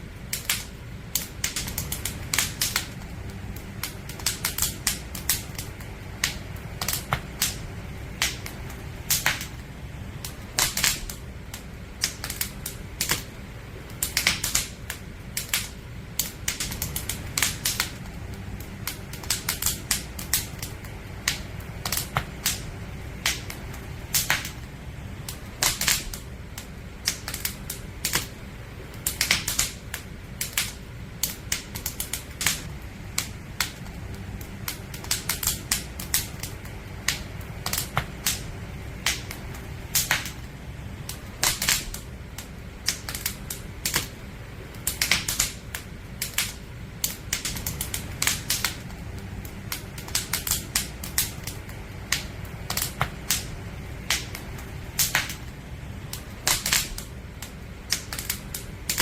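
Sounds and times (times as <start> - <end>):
low rush of flames: 0.0 - 59.0
wood fire crackling and popping: 0.0 - 59.0.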